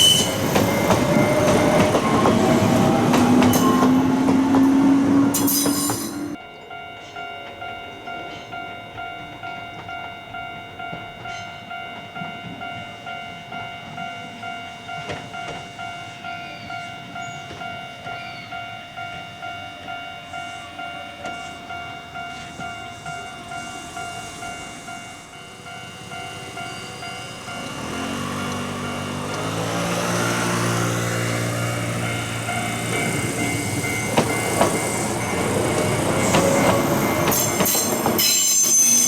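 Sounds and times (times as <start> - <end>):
railroad crossing warning bell: 0.0 - 39.0.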